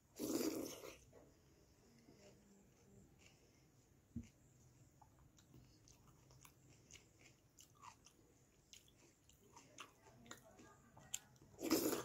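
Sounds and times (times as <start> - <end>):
person chewing: 0.2 - 1.1, 2.2 - 12.0.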